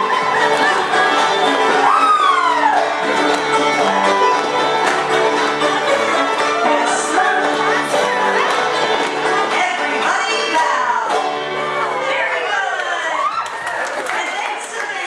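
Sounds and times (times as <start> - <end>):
fiddle and banjo tune: 0.0 - 12.7.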